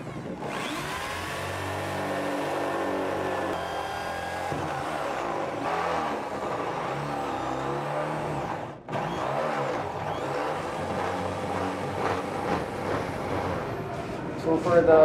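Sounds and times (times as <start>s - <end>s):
electric drill boring through metal: 0.0s - 14.1s.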